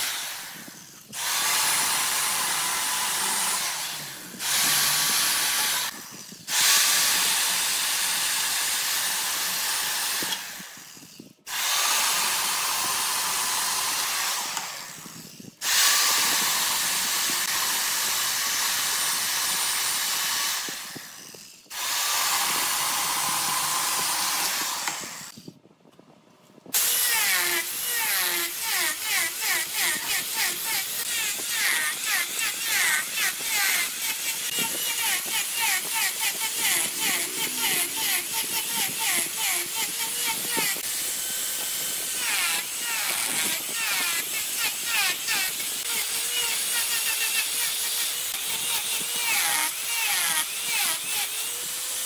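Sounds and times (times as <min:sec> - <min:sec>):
lathe tool cutting wood: 0:00.0 - 0:10.9, 0:11.5 - 0:15.0, 0:15.6 - 0:25.3, 0:26.8 - 0:52.0.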